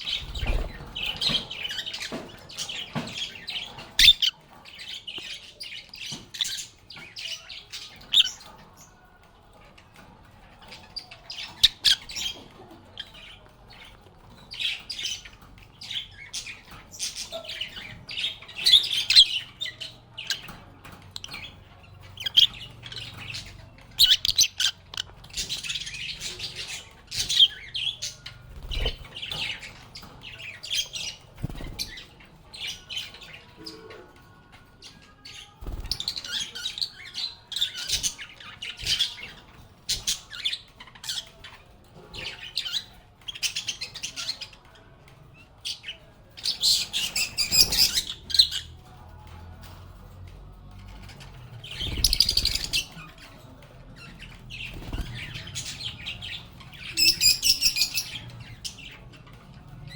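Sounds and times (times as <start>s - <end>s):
lovebirds chirping and squawking: 0.0s - 59.9s.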